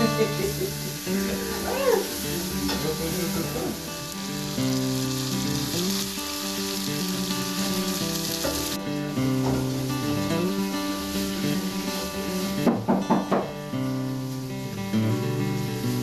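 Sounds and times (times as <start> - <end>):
fish frying in a pot: 0.0 - 16.0.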